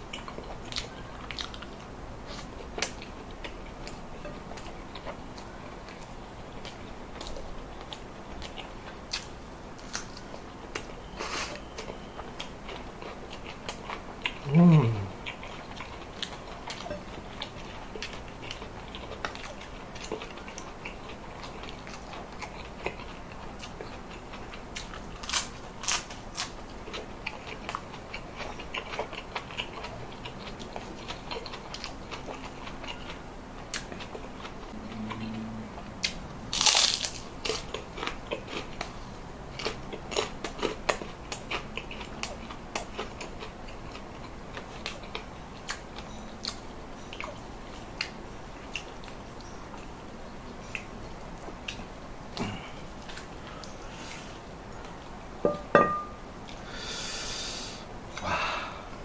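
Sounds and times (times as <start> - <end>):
wet chewing and crunching: 0.0 - 53.9.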